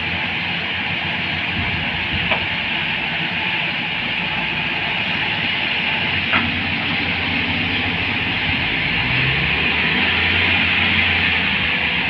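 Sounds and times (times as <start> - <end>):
excavator diesel engine and hydraulics: 0.0 - 12.0.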